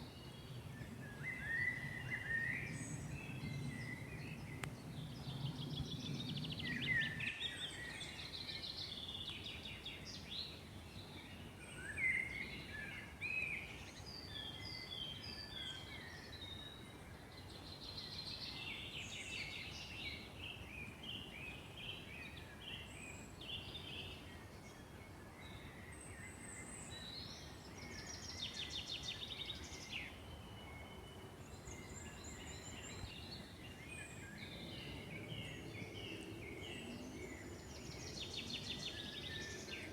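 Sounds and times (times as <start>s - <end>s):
faint background noise: 0.0s - 39.9s
songbirds singing and calling: 0.0s - 39.9s.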